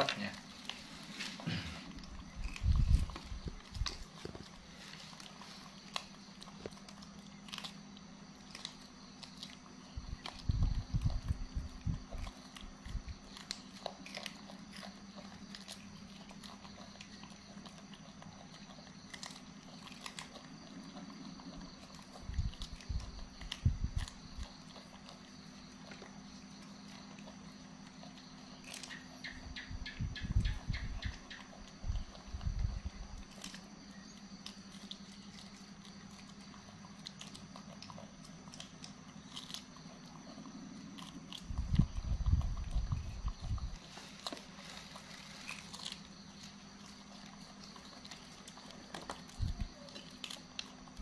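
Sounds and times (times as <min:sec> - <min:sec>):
monkeys chewing crisp bean pods: 0:00.0 - 0:51.0
steady background hum: 0:00.0 - 0:51.0.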